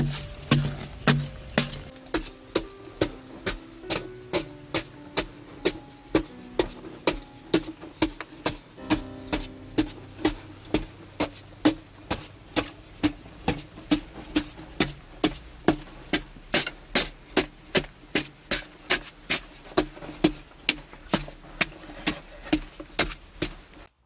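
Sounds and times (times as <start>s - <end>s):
digging tool chopping clay: 0.0s - 23.6s.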